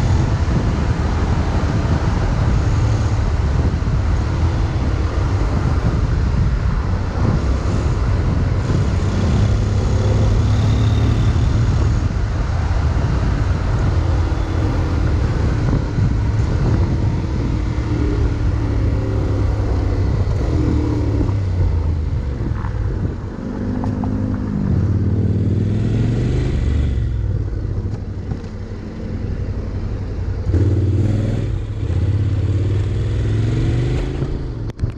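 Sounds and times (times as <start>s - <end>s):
wind rush over microphone: 0.0s - 34.9s.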